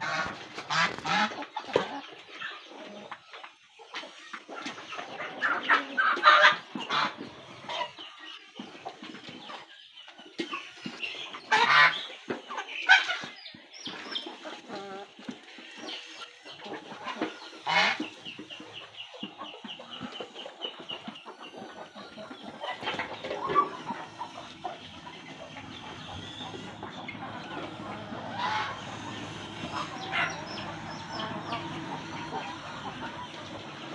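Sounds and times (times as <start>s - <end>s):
chickens clucking: 0.0s - 33.9s
loud bird calls: 0.0s - 33.9s.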